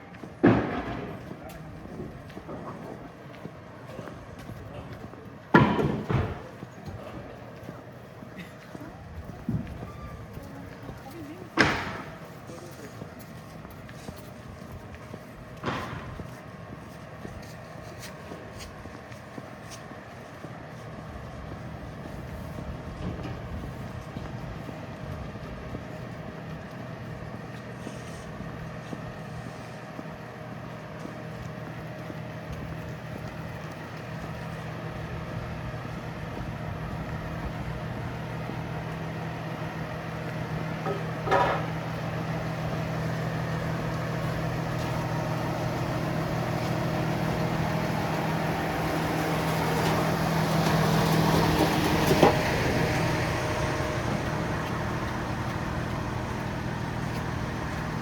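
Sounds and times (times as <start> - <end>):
engine running: 0.1 - 58.0.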